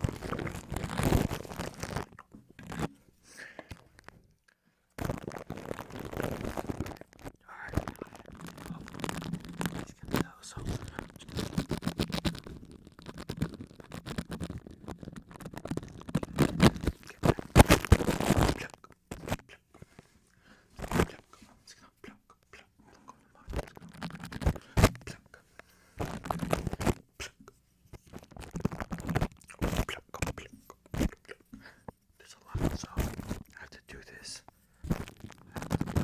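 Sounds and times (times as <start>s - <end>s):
scratching on microphone: 0.0s - 4.2s, 5.0s - 36.0s.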